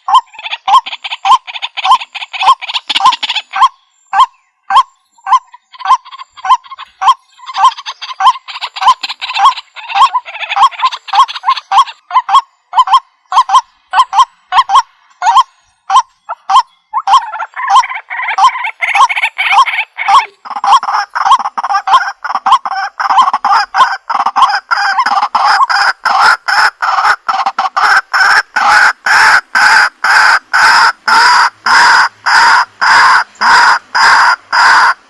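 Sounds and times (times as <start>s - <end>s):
harsh croaking bird chatter: 0.0s - 35.0s.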